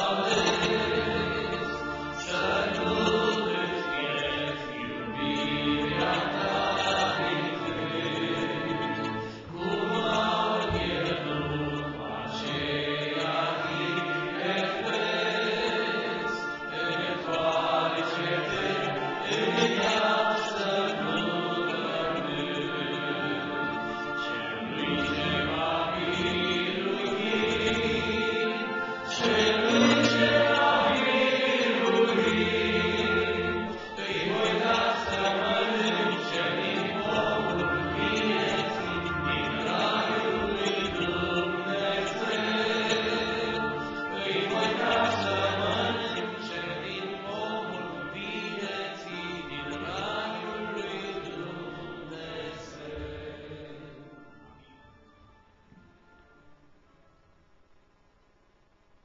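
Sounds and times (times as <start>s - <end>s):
two men singing a hymn: 0.0s - 54.2s.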